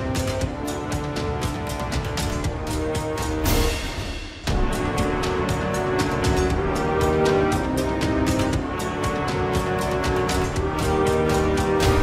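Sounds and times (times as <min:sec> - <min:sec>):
dramatic music held notes: 0:00.0 - 0:12.0
steady percussion beat: 0:00.0 - 0:12.0.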